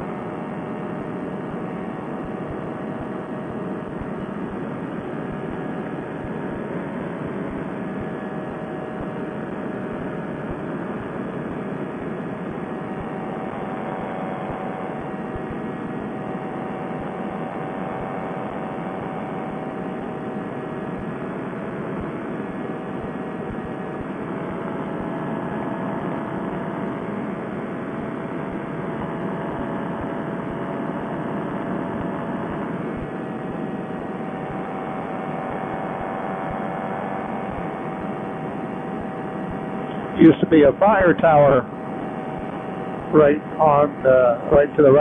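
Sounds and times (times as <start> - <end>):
paramotor engine drone: 0.0 - 45.0.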